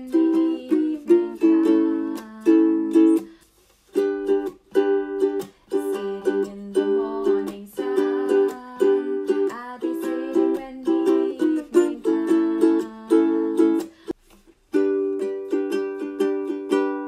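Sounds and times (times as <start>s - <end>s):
ukulele strumming: 0.0s - 17.0s.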